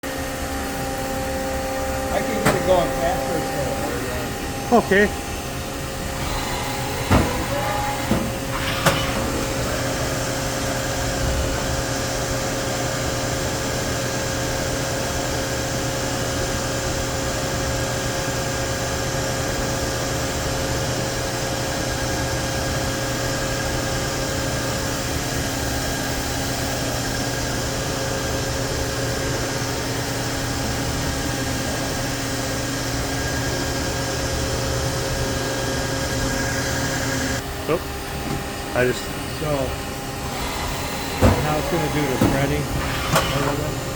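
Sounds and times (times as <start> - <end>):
lathe spindle hum and whine: 0.1 - 43.9.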